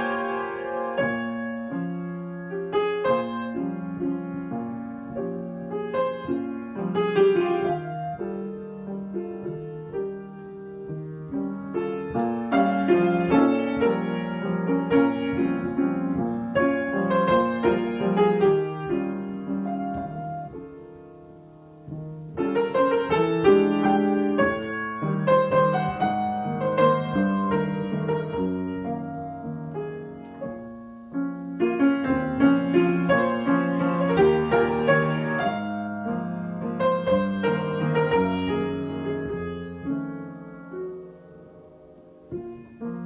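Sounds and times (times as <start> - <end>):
solo piano: 0.0 - 43.0.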